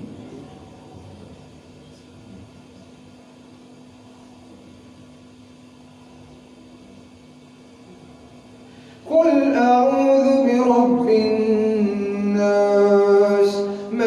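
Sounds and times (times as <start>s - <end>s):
low hum with faint hiss: 0.0s - 14.0s.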